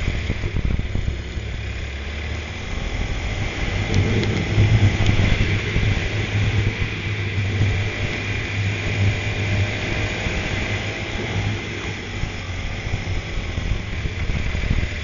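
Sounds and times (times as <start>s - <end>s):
dense haze of noise: 0.0s - 15.0s
go-kart engine running: 0.0s - 15.0s.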